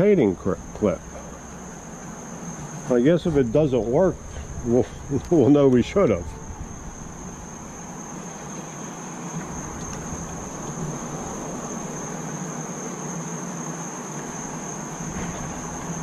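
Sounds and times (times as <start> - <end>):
crickets chirping: 0.0 - 16.0
low steady hum: 0.0 - 16.0.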